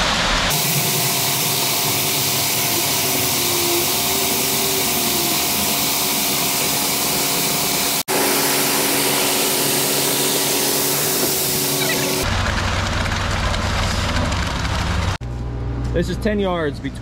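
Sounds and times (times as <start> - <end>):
concrete mixer truck running: 0.0 - 16.0.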